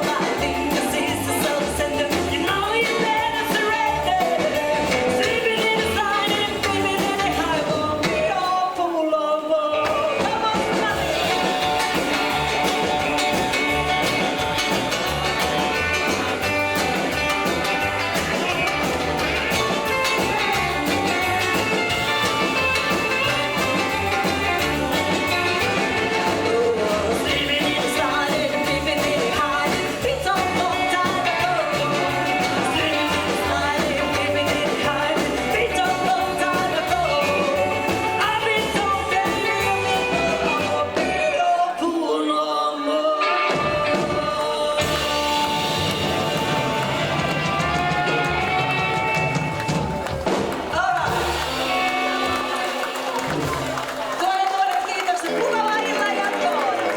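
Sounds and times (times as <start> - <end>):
person singing: 0.0 - 49.4
live rockabilly band playing: 0.0 - 56.9.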